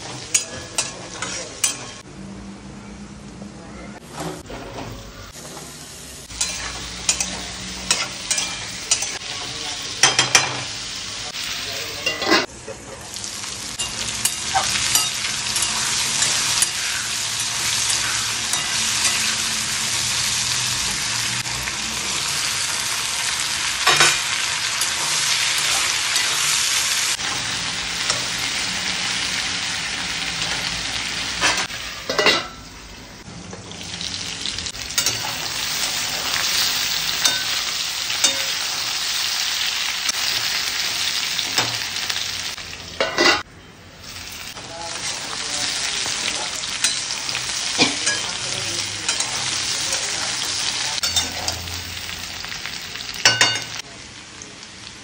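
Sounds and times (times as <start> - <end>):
potatoes sizzling in oil: 4.9 - 55.0.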